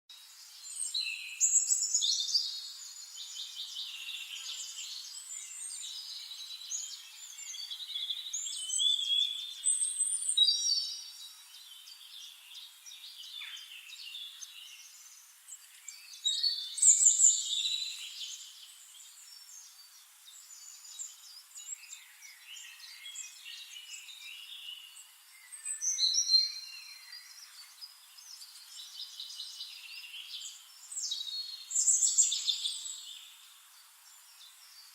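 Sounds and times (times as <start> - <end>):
songbirds chirping and warbling: 0.1 - 34.9.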